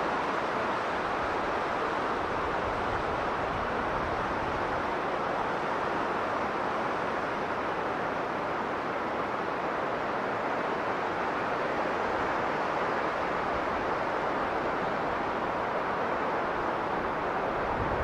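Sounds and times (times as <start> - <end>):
blizzard wind blowing: 0.0 - 18.0.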